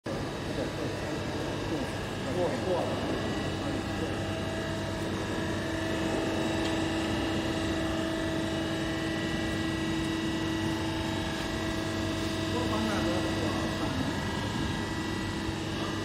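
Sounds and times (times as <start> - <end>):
hydraulic pump motor hum: 0.1 - 16.0.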